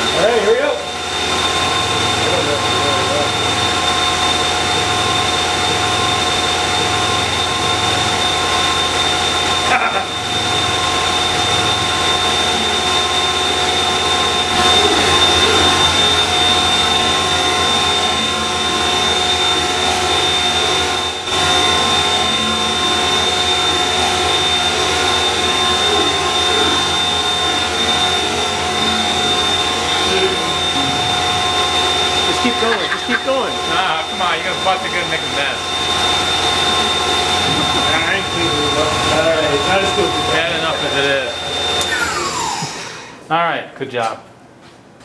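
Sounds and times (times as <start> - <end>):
milling machine spindle whine: 0.0 - 43.3.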